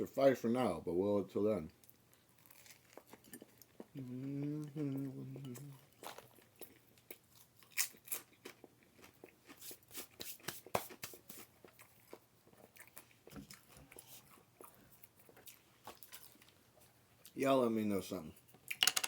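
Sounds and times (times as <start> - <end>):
person chewing and crunching food: 1.8 - 17.4.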